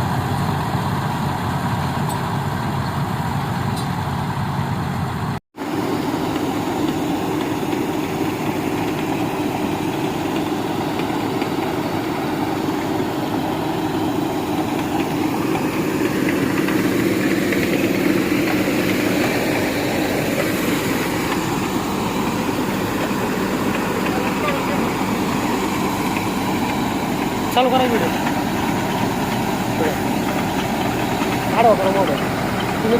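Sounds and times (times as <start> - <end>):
combine harvester droning: 0.0 - 32.9.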